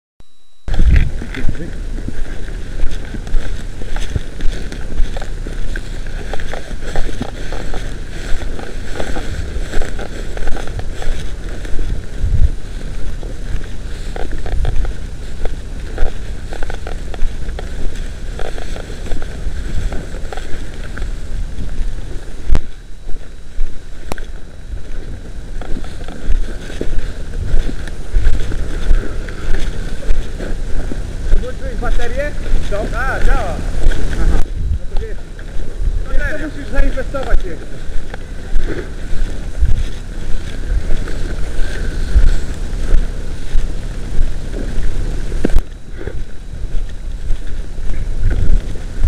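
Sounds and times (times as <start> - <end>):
wind rumbling on microphone: 0.6 - 49.0
footsteps through dry grass: 0.7 - 49.0.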